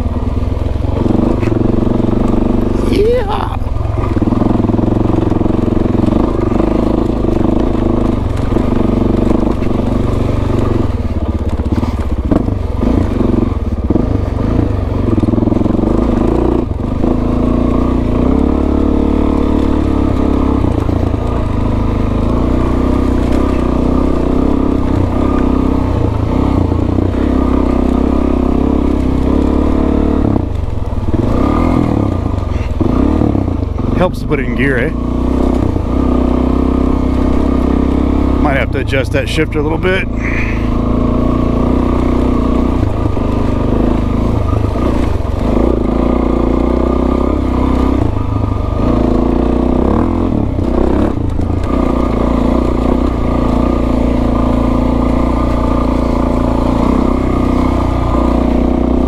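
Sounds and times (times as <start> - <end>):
motorcycle engine under load: 0.0 - 59.0.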